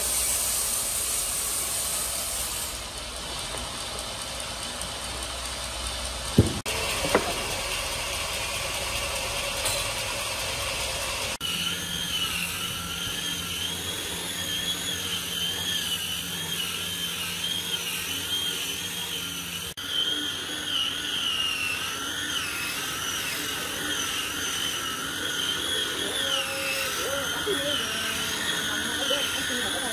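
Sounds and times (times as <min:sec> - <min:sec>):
angle grinder sanding wood: 0:00.0 - 0:29.9.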